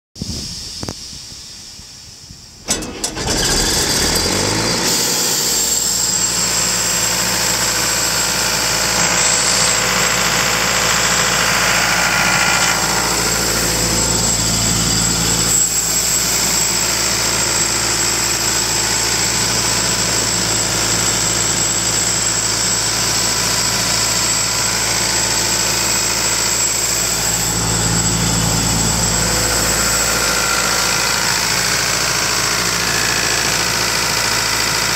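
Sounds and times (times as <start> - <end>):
diesel engine starting and running: 2.4 - 34.9.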